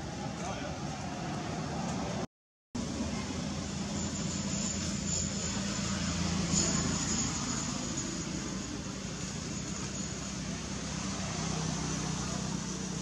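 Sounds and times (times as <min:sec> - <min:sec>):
outdoor background low hum: 0:00.0 - 0:13.0.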